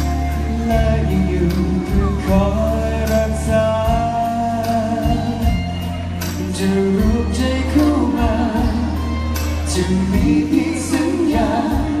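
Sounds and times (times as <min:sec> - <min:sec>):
backing music with bass and drums: 0:00.0 - 0:12.0
man singing pop ballad: 0:00.0 - 0:12.0.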